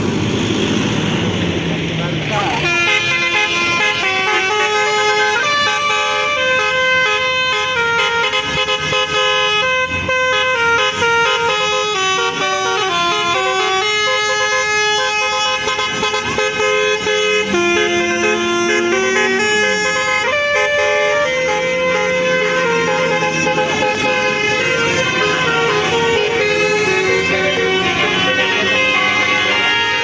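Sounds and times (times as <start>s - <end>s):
multi-tone bus air horn melody: 2.3s - 30.0s.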